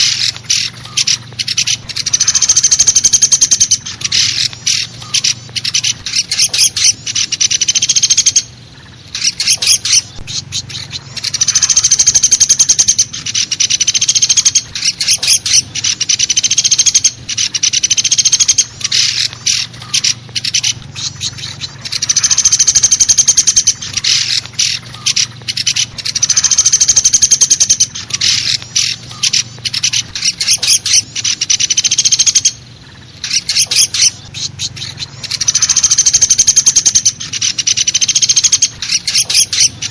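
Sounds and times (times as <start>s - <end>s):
woodpecker rattling calls: 0.0s - 39.9s.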